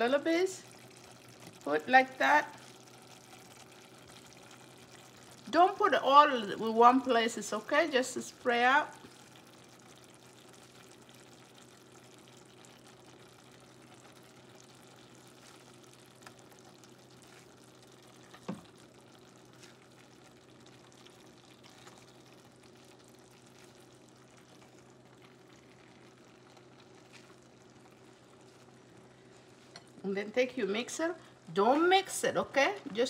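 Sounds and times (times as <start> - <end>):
low steady hum: 0.0 - 33.0
sauce simmering in a saucepan: 0.0 - 33.0.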